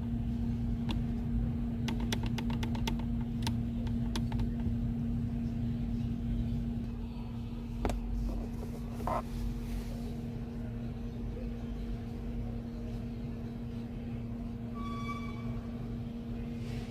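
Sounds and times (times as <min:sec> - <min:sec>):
car cabin engine hum: 0:00.0 - 0:14.7.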